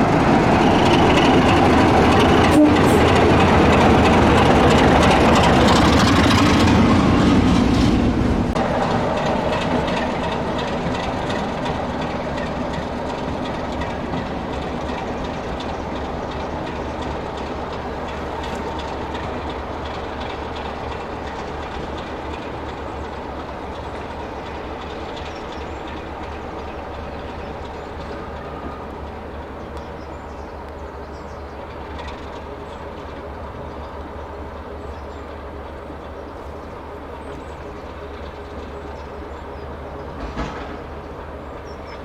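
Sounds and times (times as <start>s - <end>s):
diesel locomotive engine: 0.0s - 42.0s
train wheels on rail: 0.0s - 42.0s.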